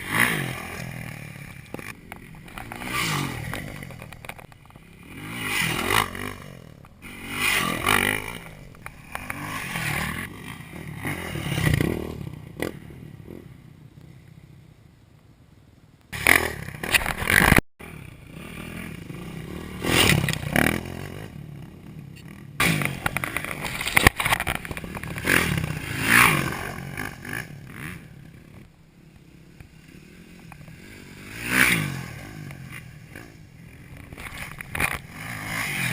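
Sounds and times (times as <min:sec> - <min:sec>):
dirt bike engines revving: 0:00.0 - 0:14.6, 0:16.1 - 0:35.9.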